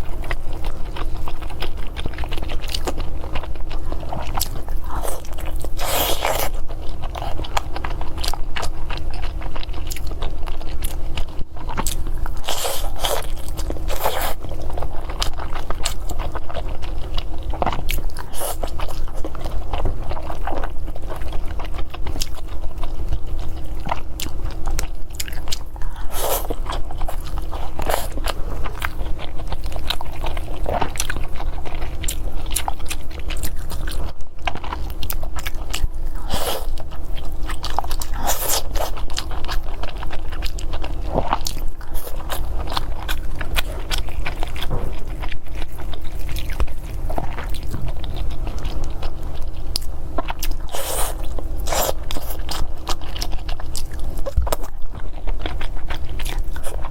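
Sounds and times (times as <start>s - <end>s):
person chewing food: 0.0s - 56.9s
steady low hum: 0.0s - 56.9s.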